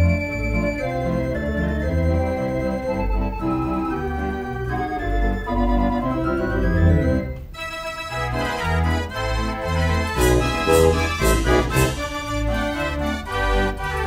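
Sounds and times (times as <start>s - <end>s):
pipe organ playing a march: 0.0s - 14.0s.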